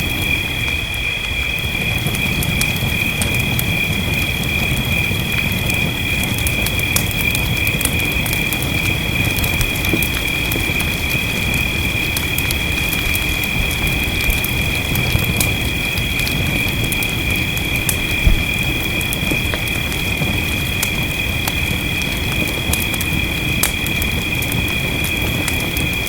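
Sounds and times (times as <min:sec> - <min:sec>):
fireplace crackling: 0:00.0 - 0:26.0
rain: 0:00.0 - 0:26.0.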